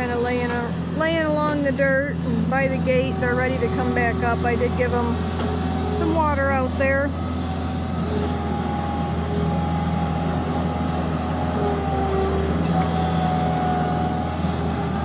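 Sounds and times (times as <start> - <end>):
farm machine engine running: 0.0 - 15.0.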